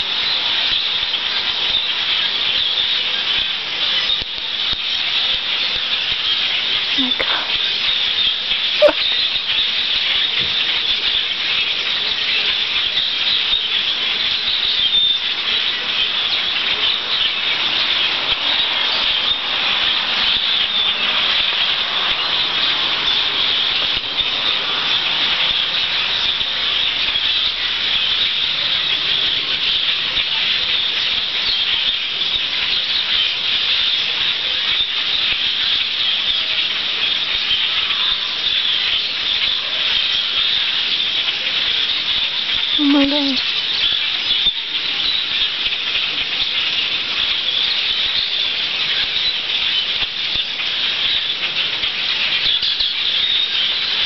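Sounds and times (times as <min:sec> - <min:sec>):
flock of birds calling: 0:00.0 - 0:54.0.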